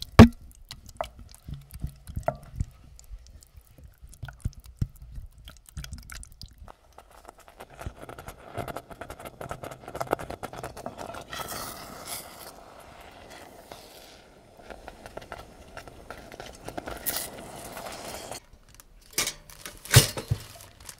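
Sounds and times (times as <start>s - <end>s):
sauce bubbling in a saucepan: 0.0s - 18.4s.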